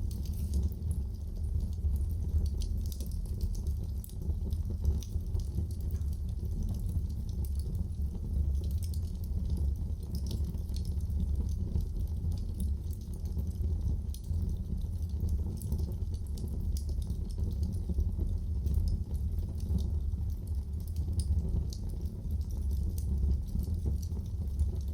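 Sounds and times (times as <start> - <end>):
fire crackling and popping: 0.0 - 24.9
fire low rumble: 0.0 - 24.9.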